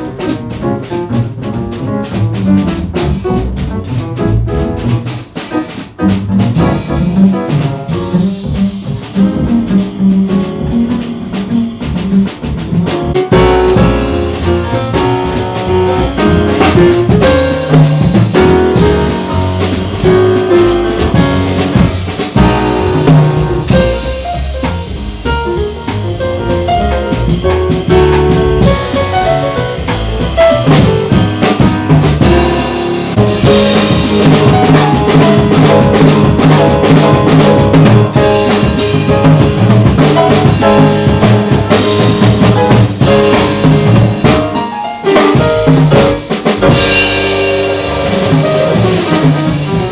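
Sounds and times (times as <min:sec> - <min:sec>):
bass drum: 0:00.0 - 0:49.9
drum rimshots: 0:00.0 - 0:49.9
jazz piano trio playing: 0:00.0 - 0:49.9.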